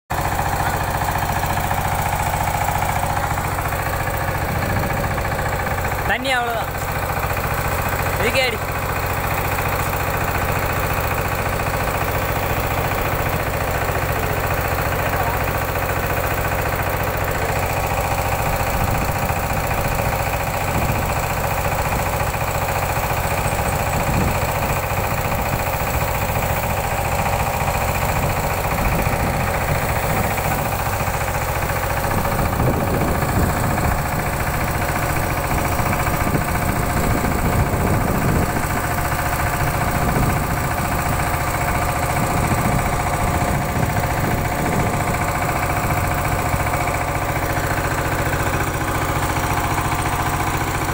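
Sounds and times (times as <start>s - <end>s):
engine-driven sprayer pump running: 0.1s - 50.9s.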